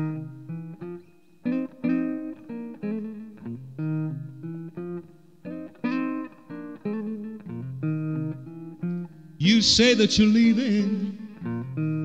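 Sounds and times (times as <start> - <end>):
guitar picked notes and chords: 0.0 - 12.0.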